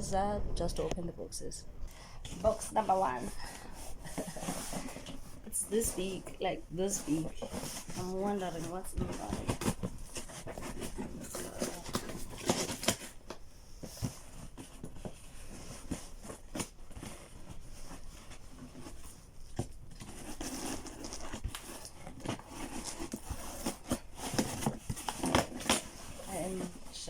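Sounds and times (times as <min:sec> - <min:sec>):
cardboard tearing and rustling: 0:02.2 - 0:27.0.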